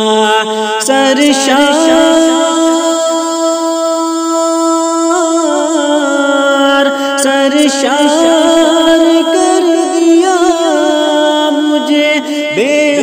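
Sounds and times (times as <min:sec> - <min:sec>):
person singing long notes: 0:00.0 - 0:13.0.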